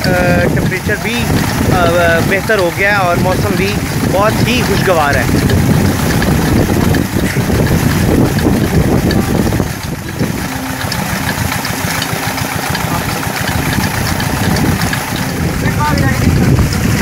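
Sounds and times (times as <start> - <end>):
water rushing from tubewell: 0.0 - 17.0
wind buffeting microphone: 0.0 - 17.0.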